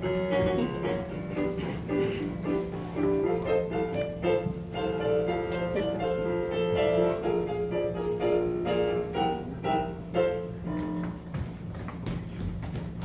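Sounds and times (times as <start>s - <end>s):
piano music: 0.0s - 11.3s
steady low hum: 0.0s - 13.0s.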